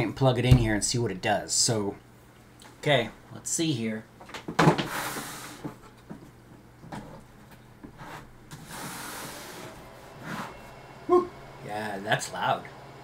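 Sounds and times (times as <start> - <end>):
cooling fans whirring: 0.0 - 13.0
steady hum: 0.0 - 13.0.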